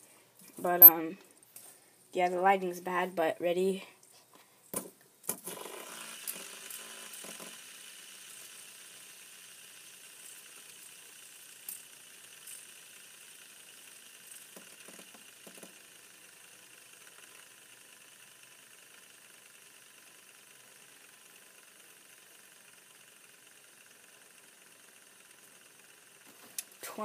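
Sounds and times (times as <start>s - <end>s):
fidget spinner clicks: 4.7s - 27.0s.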